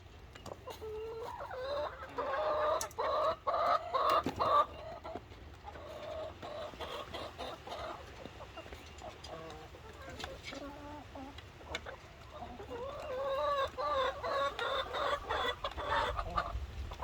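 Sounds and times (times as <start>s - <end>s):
chickens clucking: 0.1s - 17.0s.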